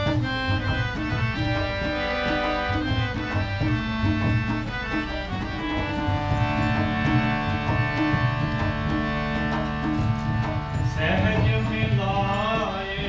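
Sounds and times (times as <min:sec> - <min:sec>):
harmonium chords: 0:00.0 - 0:13.0
tabla rhythm: 0:00.0 - 0:13.0.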